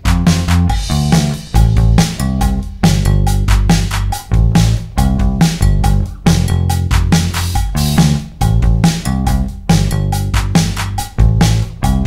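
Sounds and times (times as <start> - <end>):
music with drum beat and bass: 0.0 - 12.0.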